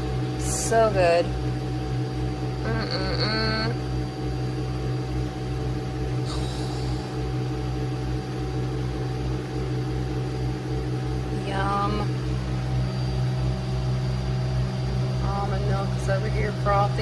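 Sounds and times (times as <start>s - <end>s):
coffee machine humming: 0.0s - 17.0s
milk frother running: 0.0s - 17.0s.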